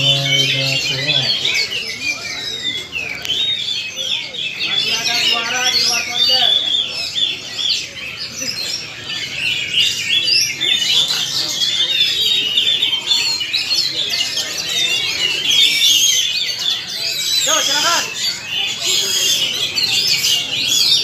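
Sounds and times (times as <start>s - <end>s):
crowd din: 0.0s - 21.0s
many birds singing: 0.0s - 21.0s.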